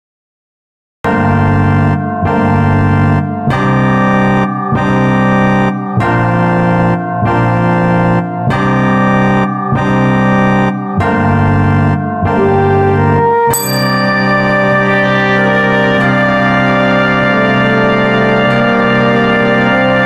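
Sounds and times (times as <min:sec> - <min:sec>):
organ-like keyboard chords: 0:01.1 - 0:20.0.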